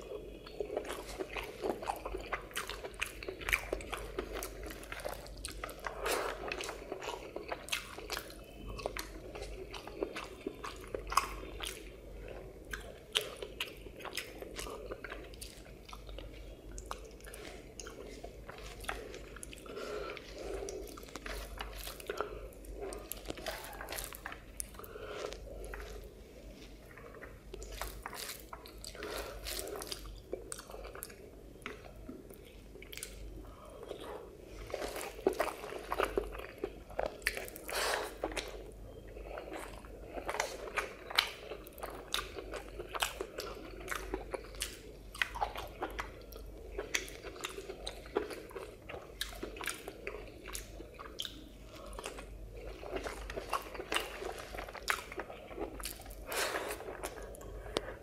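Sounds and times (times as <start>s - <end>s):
wet chewing with mouth clicks: 0.0s - 58.0s.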